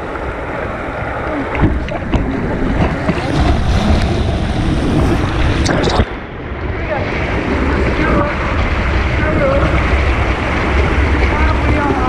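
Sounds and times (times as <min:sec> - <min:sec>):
white water rushing and splashing: 0:00.0 - 0:12.0
wind buffeting microphone: 0:00.0 - 0:12.0.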